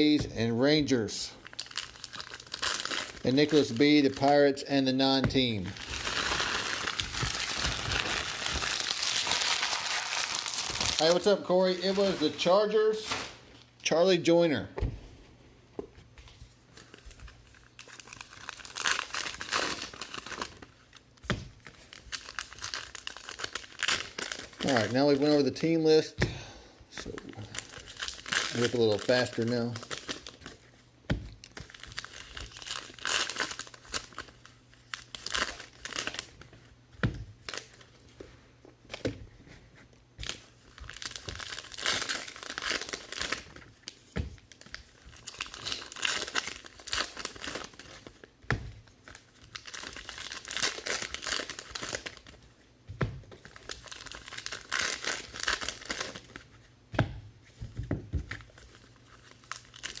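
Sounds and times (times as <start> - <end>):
card wrappers tearing and crinkling: 0.0 - 13.4, 16.7 - 25.8, 27.0 - 30.7, 31.4 - 36.5, 37.4 - 38.2, 40.2 - 52.6, 53.4 - 56.5, 58.2 - 60.0.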